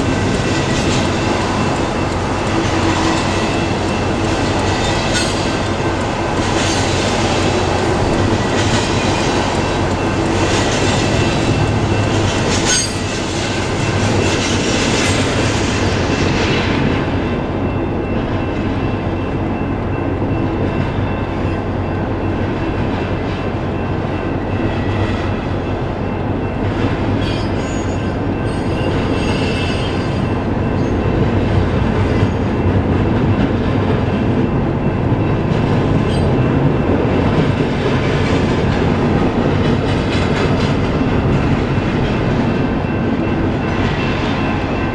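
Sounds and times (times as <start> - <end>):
freight train rumbling: 0.0 - 44.9.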